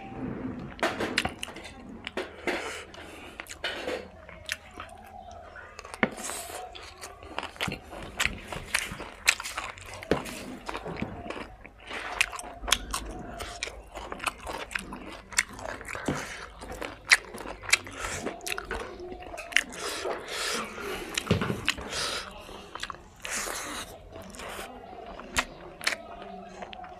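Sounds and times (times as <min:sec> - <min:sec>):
person chewing food: 0:00.6 - 0:26.9
mouth smacks and clicks: 0:01.2 - 0:26.9.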